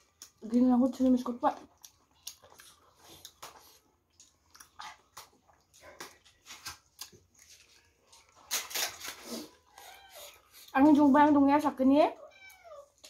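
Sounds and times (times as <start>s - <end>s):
wet chewing and smacking: 0.0s - 11.1s.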